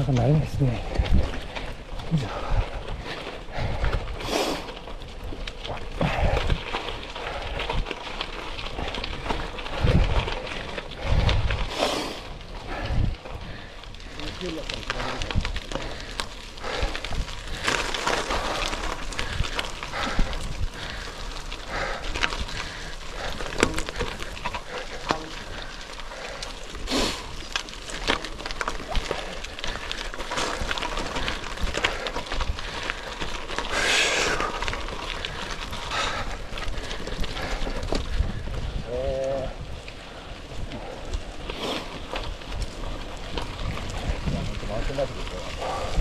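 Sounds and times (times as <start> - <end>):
bicycle tyres on gravel: 0.0 - 46.0
bike clicks and rattles: 0.0 - 46.0.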